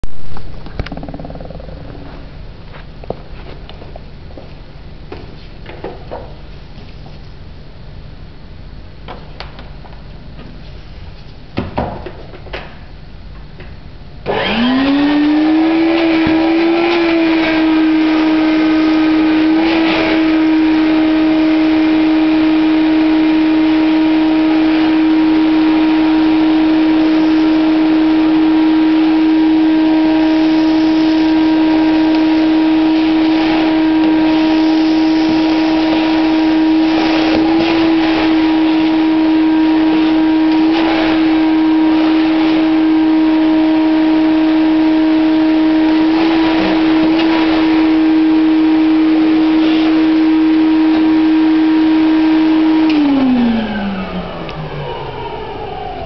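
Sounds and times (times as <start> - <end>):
vacuum cleaner motor whining: 0.7 - 3.9, 14.2 - 56.0.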